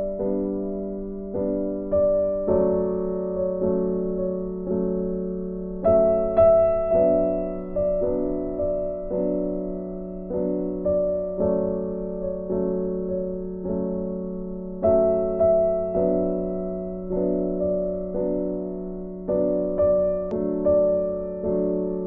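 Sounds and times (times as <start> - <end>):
soft keyboard chords: 0.0 - 22.0.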